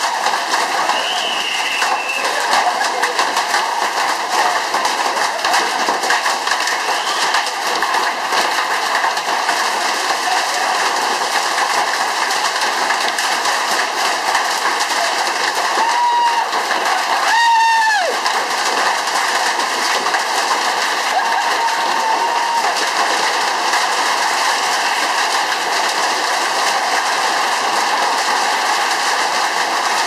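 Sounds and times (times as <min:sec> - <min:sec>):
hail and heavy rain on paving: 0:00.0 - 0:30.0.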